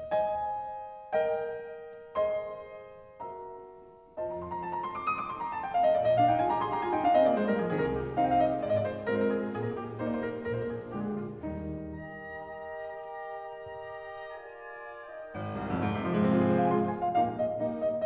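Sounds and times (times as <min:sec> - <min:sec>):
fast piano scales and arpeggios: 0:00.0 - 0:18.0
piano chords: 0:00.0 - 0:18.0.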